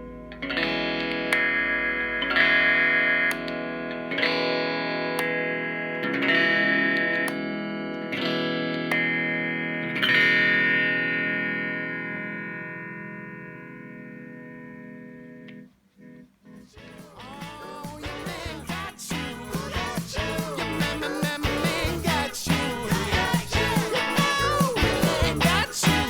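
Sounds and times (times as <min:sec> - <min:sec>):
distorted electric guitar chords: 0:00.0 - 0:15.7, 0:16.8 - 0:26.0.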